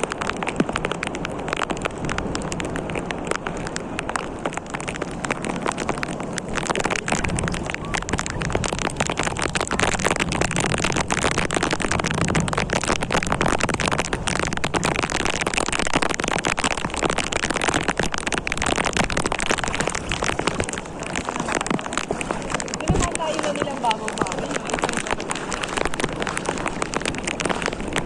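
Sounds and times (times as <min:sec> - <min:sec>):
steady rain patter: 0:00.0 - 0:28.0.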